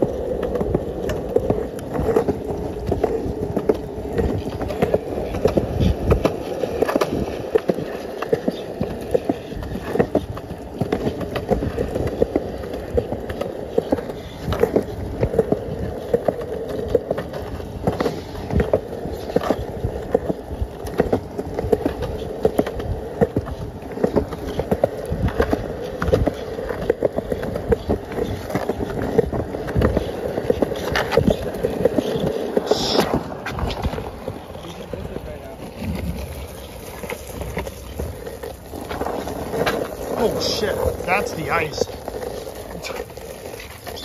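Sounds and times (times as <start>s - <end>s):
skateboard clicks and knocks: 0.0s - 44.0s
skateboard wheels rolling on concrete: 0.0s - 44.0s.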